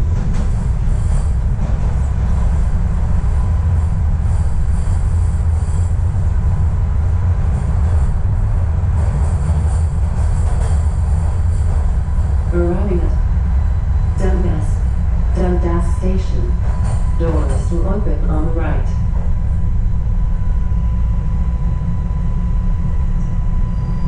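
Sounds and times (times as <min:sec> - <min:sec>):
subway train wheels rumbling: 0:00.0 - 0:24.0.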